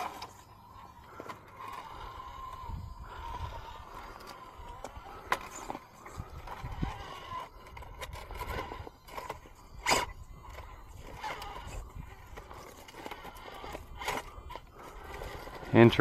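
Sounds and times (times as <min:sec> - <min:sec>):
faint electric motor whine: 0:00.0 - 0:16.0
tyres scraping on rock: 0:00.0 - 0:16.0.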